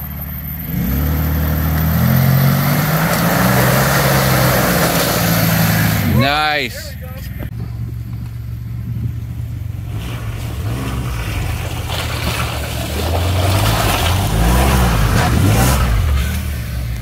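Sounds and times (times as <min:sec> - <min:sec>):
suv engine revving: 0:00.0 - 0:17.0.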